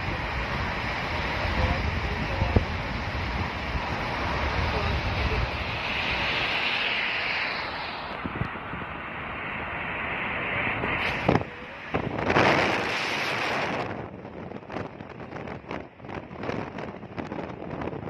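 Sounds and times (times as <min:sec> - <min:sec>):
road and wind noise on wet road: 0:00.0 - 0:18.0.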